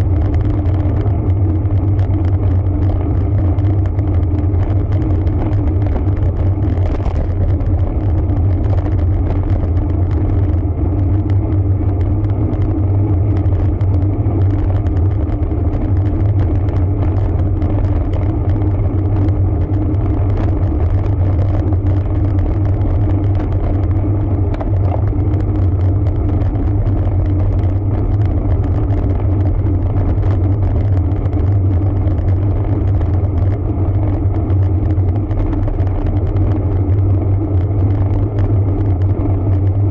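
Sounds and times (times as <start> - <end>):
bike tyre and road noise: 0.0 - 39.9
wind rumble on microphone: 0.0 - 39.9.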